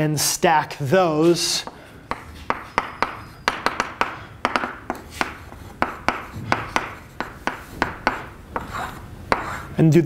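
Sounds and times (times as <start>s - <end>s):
chalk scratching: 1.2s - 9.8s
chalk tapping on blackboard: 1.6s - 9.8s.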